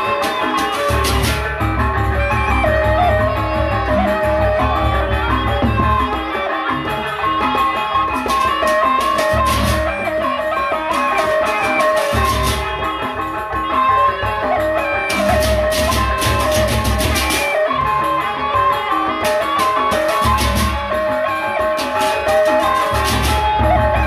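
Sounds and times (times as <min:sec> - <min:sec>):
metallophones playing melody: 0:00.0 - 0:24.0.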